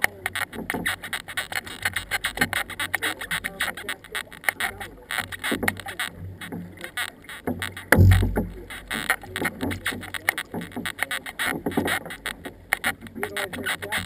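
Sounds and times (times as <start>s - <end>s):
paddles splashing in water: 0.0s - 14.0s
water lapping at canoe hull: 0.0s - 14.0s.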